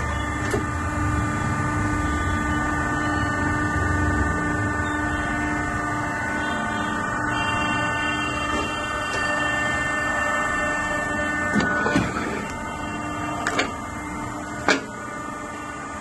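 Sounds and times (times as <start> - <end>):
moulding machine humming: 0.0 - 16.0.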